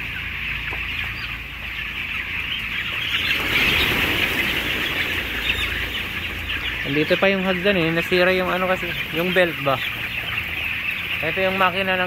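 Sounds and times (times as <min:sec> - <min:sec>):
chickens cheeping: 0:00.0 - 0:12.0.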